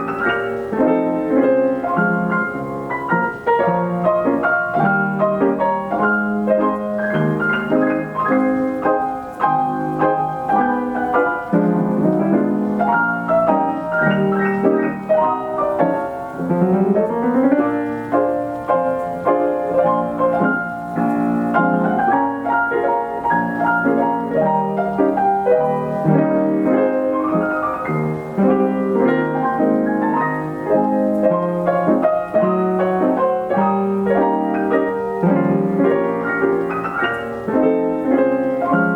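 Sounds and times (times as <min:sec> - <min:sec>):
player piano playing chords: 0:00.0 - 0:38.9.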